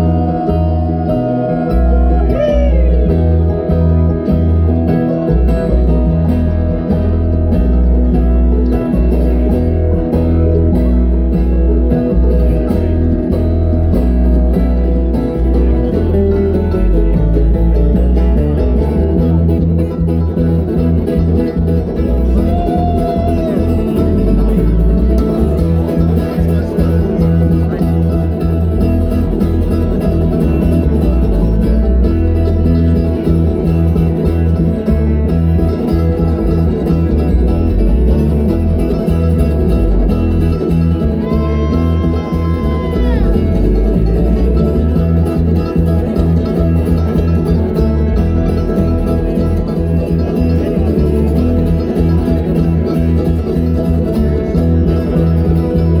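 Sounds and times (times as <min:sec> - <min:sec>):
upright bass walking notes: 0:00.0 - 0:22.5, 0:23.2 - 0:56.0
bluegrass band playing: 0:00.0 - 0:56.0.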